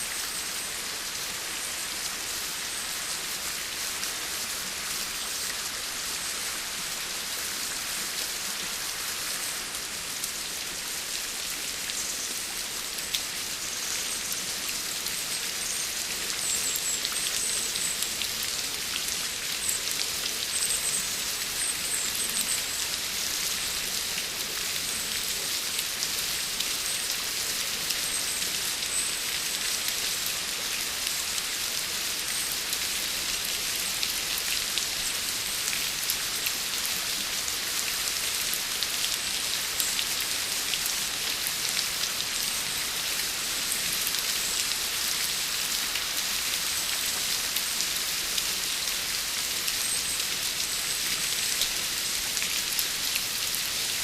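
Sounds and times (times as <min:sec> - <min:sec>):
rain pattering on surfaces: 0:00.1 - 0:54.0.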